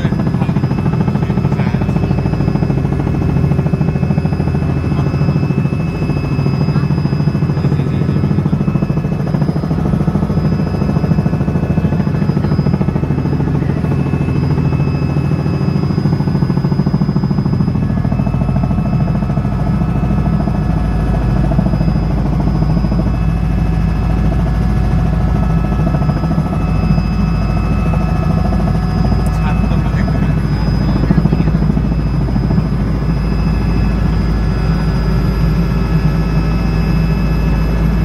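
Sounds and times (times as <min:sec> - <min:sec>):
helicopter engine and rotor: 0:00.0 - 0:38.0
high whine: 0:00.0 - 0:38.0.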